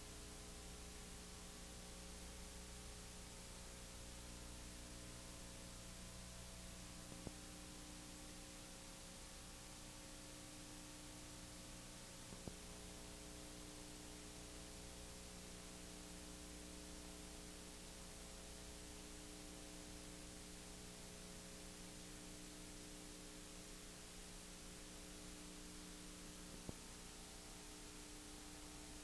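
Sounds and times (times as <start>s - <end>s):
recording hiss and electrical hum: 0.0s - 29.0s.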